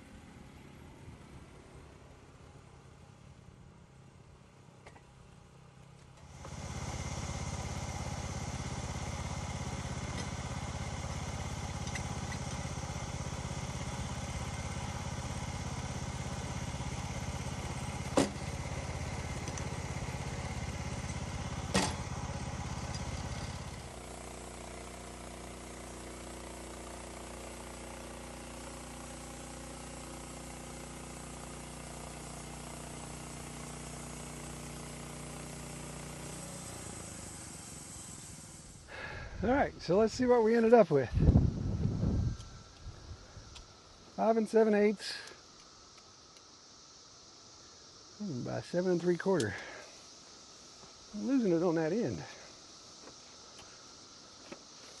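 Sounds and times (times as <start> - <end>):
sawmill engine running: 6.2 - 55.0.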